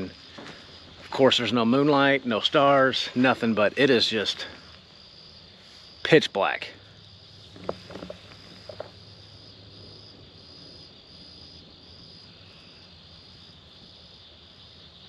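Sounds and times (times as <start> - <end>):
crickets trilling: 0.0 - 15.0
high pulsing insect call: 0.0 - 15.0.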